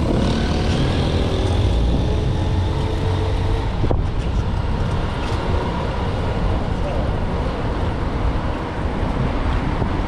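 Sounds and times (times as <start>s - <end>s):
rumble of passing vehicles: 0.0s - 10.0s.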